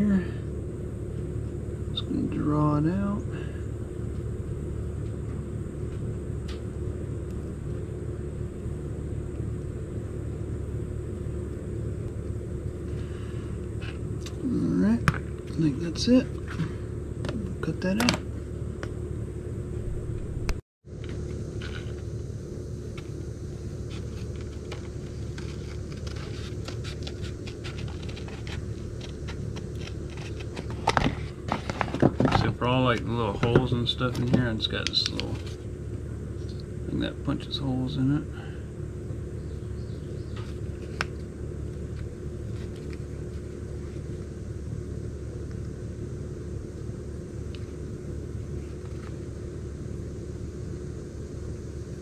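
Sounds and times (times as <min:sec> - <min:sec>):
faint constant hum: 0:00.0 - 0:52.0
low background rumble: 0:00.0 - 0:52.0.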